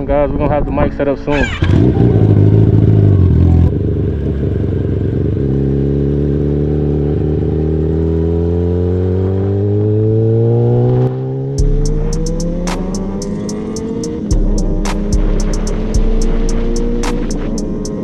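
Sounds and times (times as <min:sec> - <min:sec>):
motorcycle engine accelerating: 0:01.2 - 0:18.0.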